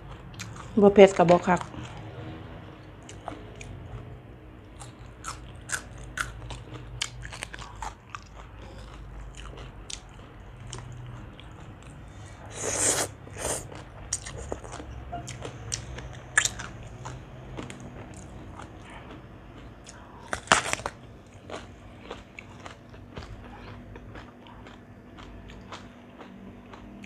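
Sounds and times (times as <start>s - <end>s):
person chewing food: 0.0s - 0.8s, 2.8s - 27.0s.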